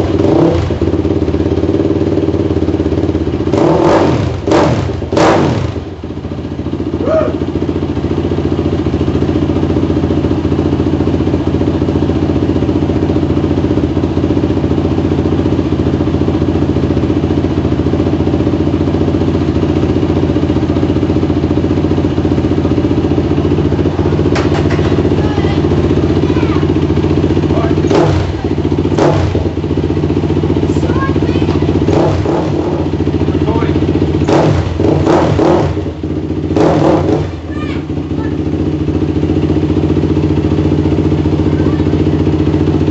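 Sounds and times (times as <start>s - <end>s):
dirt bike engine idling: 0.0s - 42.9s.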